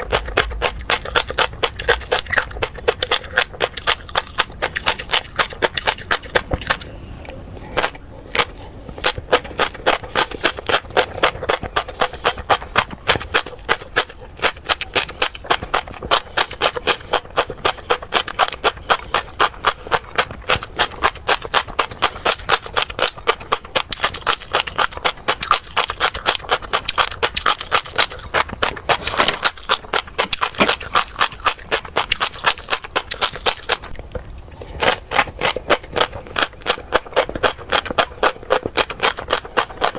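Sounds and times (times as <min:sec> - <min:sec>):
chewing crunchy fish eggs: 0:00.0 - 0:39.9.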